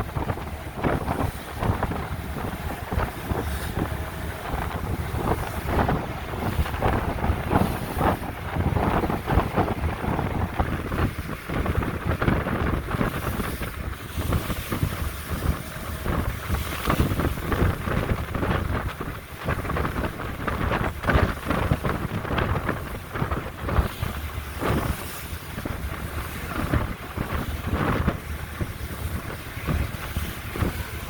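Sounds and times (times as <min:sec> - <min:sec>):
boat running noise: 0:00.0 - 0:31.0
rushing water: 0:00.0 - 0:31.0
wind buffeting microphone: 0:00.0 - 0:31.0.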